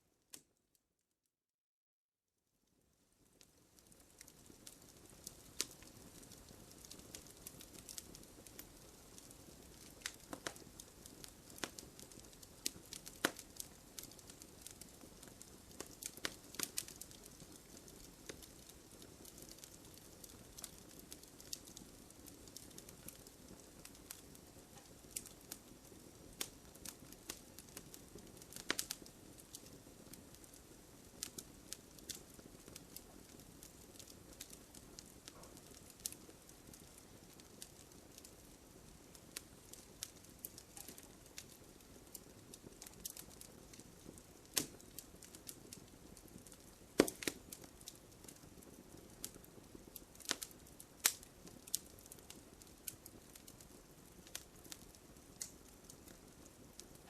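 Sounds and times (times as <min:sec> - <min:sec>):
bonfire crackling and popping: 0:02.7 - 0:57.0.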